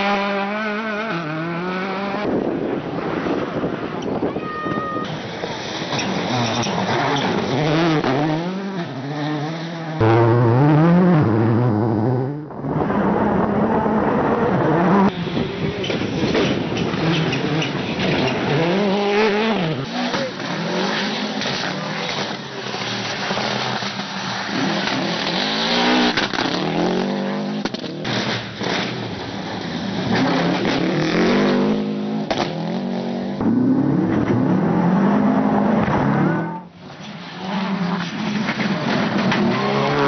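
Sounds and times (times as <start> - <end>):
rally car engines revving: 0.0 - 4.3, 5.0 - 40.0.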